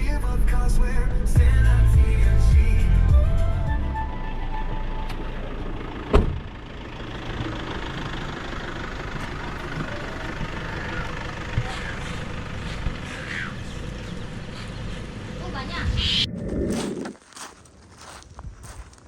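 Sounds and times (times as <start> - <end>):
boat engine rumbling: 0.0 - 17.2.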